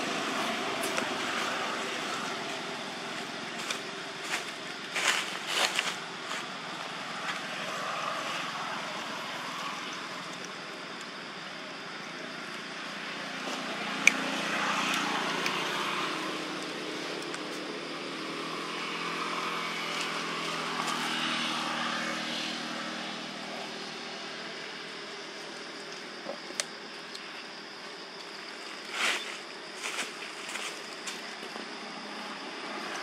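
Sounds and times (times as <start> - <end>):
distant engine hum: 0.0 - 33.0.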